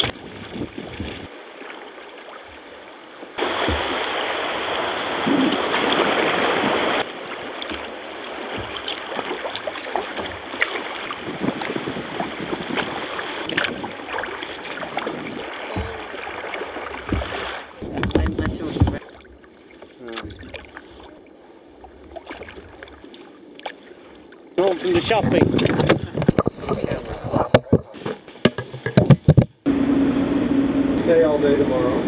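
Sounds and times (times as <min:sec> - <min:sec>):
paddle splashes and drips: 0:00.0 - 0:26.8
water lapping at hull: 0:00.0 - 0:29.7.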